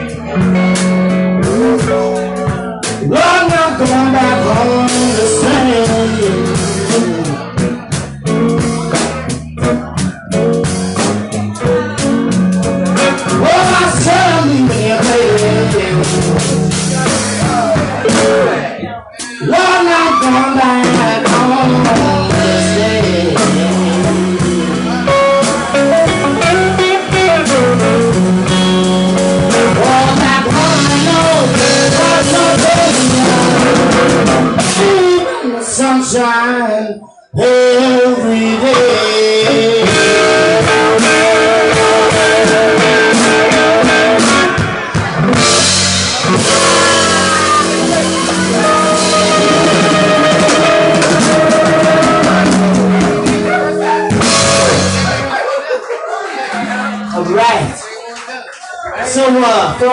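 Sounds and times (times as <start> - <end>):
blues-rock band playing: 0.0 - 57.8.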